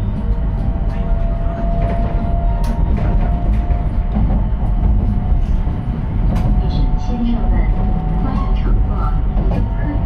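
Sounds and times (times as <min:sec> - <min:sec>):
train running rumble: 0:00.0 - 0:10.0.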